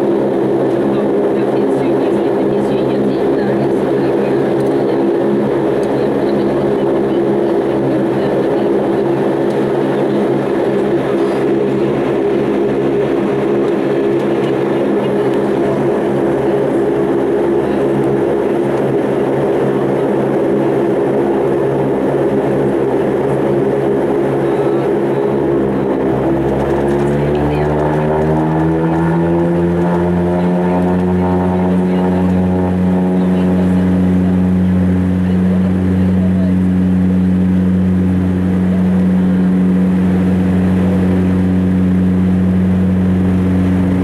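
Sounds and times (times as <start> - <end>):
turboprop engines droning: 0.0 - 44.0.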